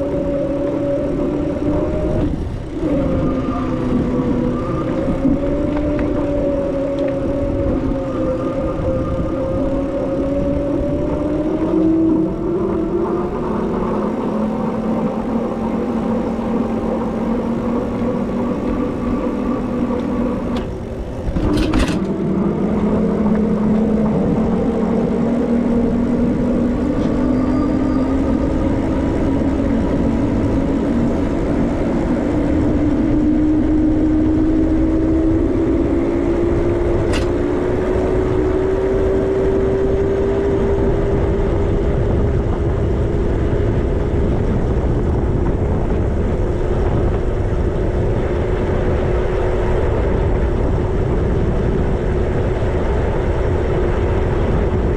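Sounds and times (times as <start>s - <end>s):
electric bike motor whining: 0.0s - 54.9s
steady rushing noise: 0.0s - 54.9s.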